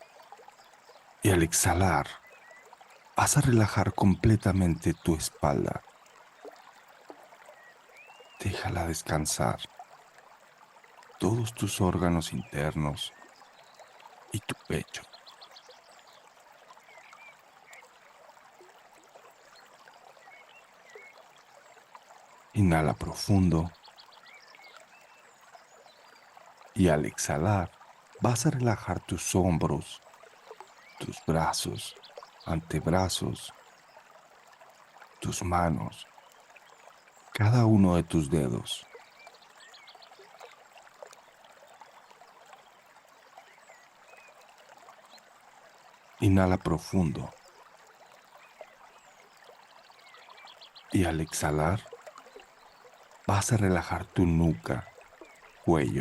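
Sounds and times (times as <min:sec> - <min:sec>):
small stream babbling: 0:00.0 - 0:56.0.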